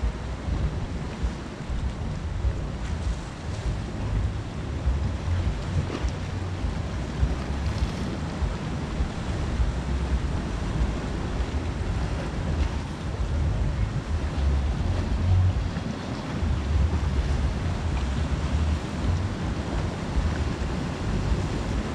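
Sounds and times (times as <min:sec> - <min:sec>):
surf on rocky shore: 0:00.0 - 0:21.9
wind buffeting microphone: 0:00.0 - 0:21.9.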